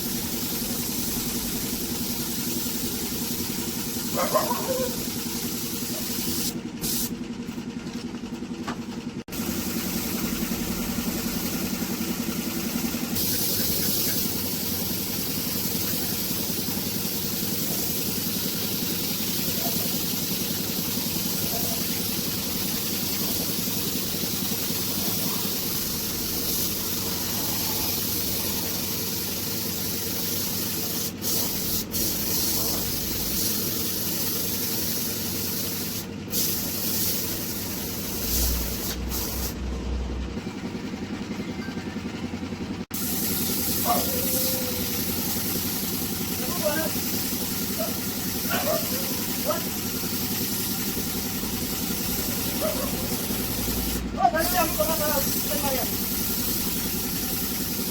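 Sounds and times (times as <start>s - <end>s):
paint spray gun hissing: 0.0s - 7.6s, 9.3s - 39.6s, 42.9s - 57.9s
air compressor hum: 0.0s - 57.9s.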